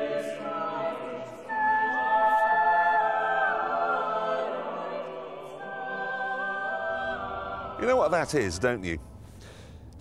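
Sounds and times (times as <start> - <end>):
choir singing held chords: 0.0 - 9.5.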